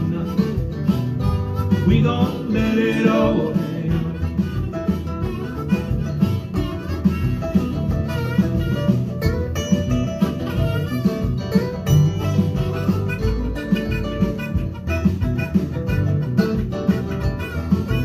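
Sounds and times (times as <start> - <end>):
electric guitar lead lines: 0.0 - 18.0
harmonica: 0.0 - 18.0
steady beat: 0.0 - 18.0.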